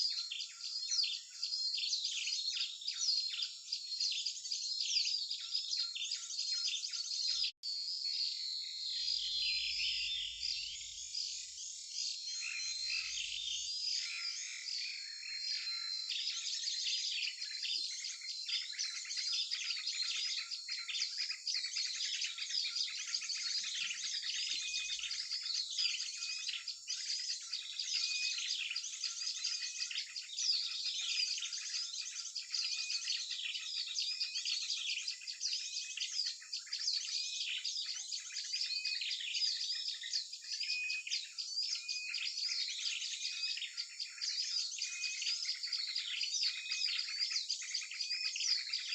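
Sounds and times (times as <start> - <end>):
small birds chirping and twittering: 0.0 - 48.9.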